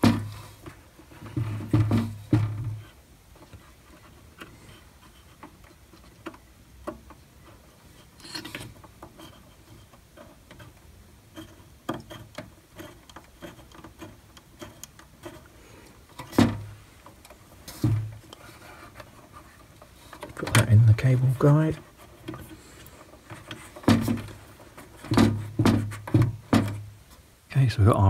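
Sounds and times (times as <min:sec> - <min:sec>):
cable rustling against plastic: 0:00.0 - 0:27.3.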